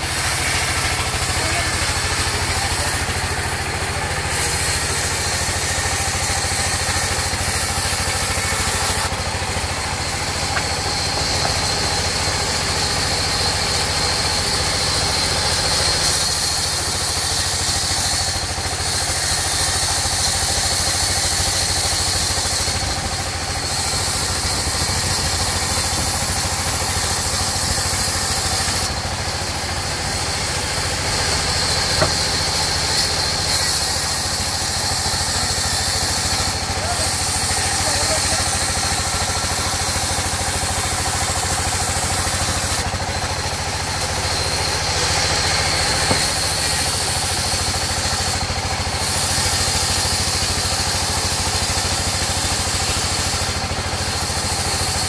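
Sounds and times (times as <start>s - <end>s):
saw blade cutting log: 0.0s - 55.0s
saw engine droning: 0.0s - 55.0s.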